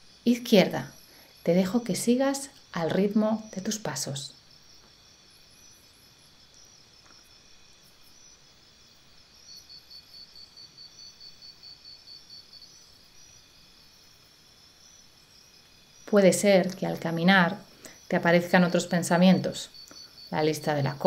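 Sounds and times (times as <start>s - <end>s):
insect chirping trill: 0.0s - 21.0s
pulsing insect chirp: 0.0s - 21.0s.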